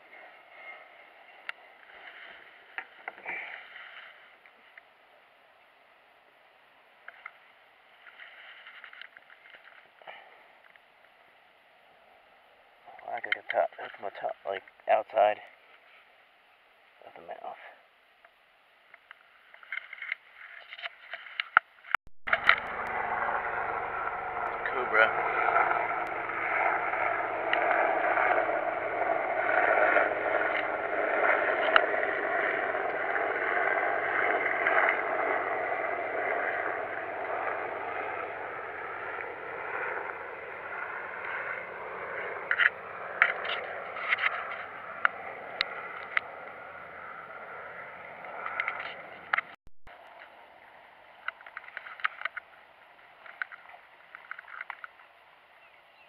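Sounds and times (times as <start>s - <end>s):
helicopter flying overhead: 0.0s - 5.0s, 5.7s - 15.6s, 22.3s - 56.0s.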